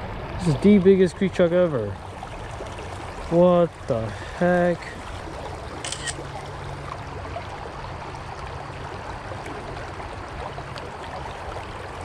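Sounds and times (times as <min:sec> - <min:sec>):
creek water running over rocks: 0:00.1 - 0:12.0.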